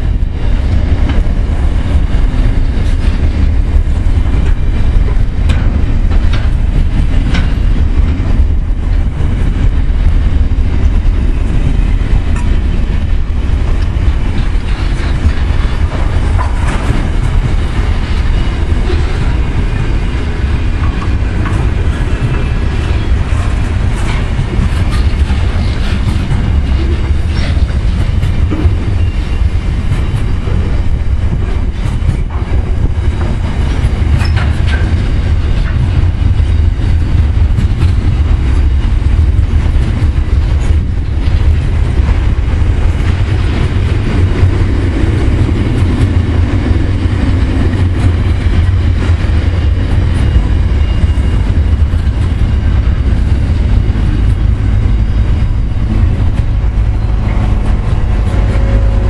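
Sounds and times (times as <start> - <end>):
freight train wheels rumbling on rail: 0.0 - 59.0
wheels clicking over rail joints: 0.1 - 59.0.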